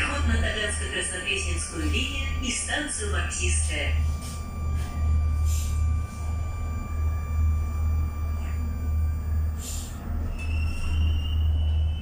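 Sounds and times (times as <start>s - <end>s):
faint whine: 0.0s - 12.0s
thin steady tones: 0.0s - 12.0s
train equipment hum: 0.0s - 12.0s.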